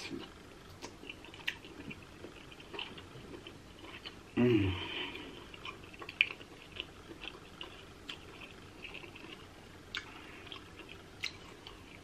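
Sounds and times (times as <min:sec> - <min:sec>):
person chewing with wet smacks: 0:00.0 - 0:04.3, 0:05.1 - 0:12.0.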